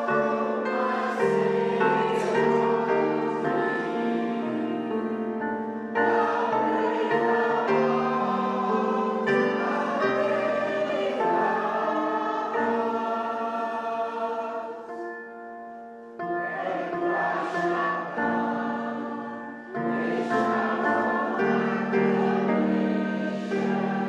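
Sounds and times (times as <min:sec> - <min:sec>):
congregation singing a hymn: 0:00.0 - 0:24.0
instrumental accompaniment: 0:00.0 - 0:24.0.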